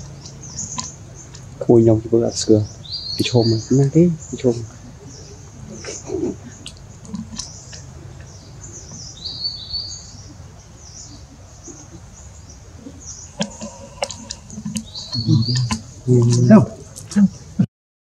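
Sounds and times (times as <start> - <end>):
low background noise: 0.0 - 17.7
small birds chirping: 0.0 - 17.7.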